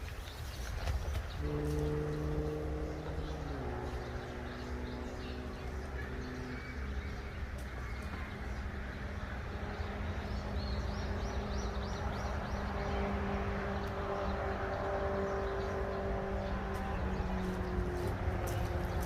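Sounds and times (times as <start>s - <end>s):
bird chirping: 0.2s - 19.0s
low hum and rumble: 0.7s - 19.0s.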